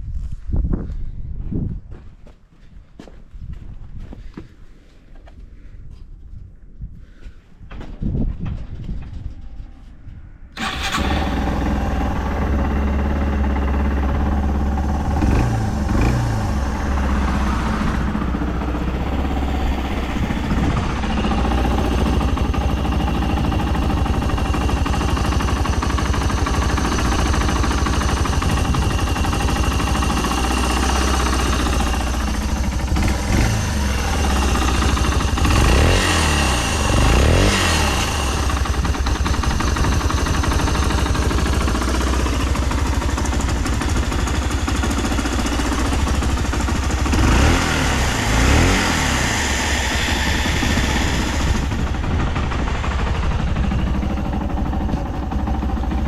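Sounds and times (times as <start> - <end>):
motorcycle engine idling: 10.6 - 56.0.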